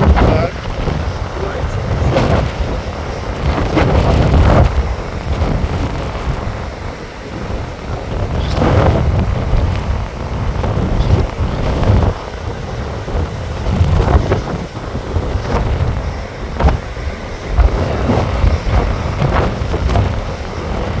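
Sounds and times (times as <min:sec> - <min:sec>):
ocean surf on rocky shore: 0:00.0 - 0:21.0
wind buffeting microphone: 0:00.0 - 0:21.0.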